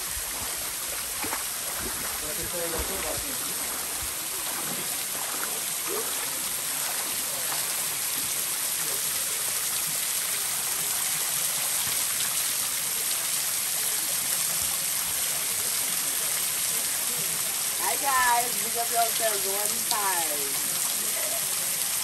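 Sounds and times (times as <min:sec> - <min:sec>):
waterfall splashing onto rocks: 0:00.0 - 0:22.0.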